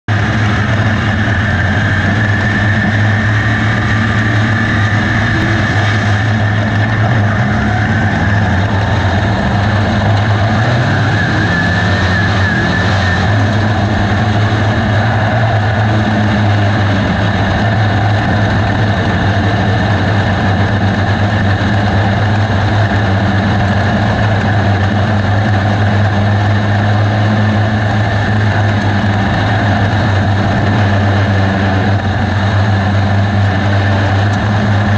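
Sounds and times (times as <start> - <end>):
race car engine running: 0.0 - 34.9.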